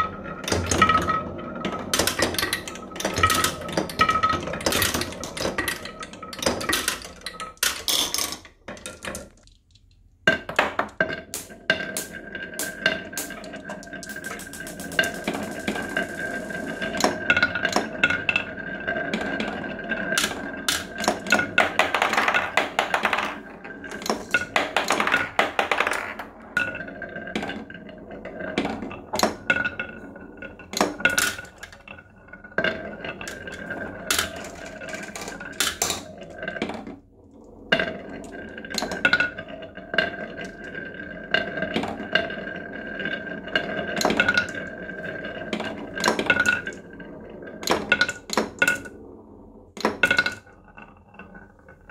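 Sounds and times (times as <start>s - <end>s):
marbles clicking and clacking: 0.0s - 51.9s
marbles rolling on wooden tracks: 0.0s - 51.9s.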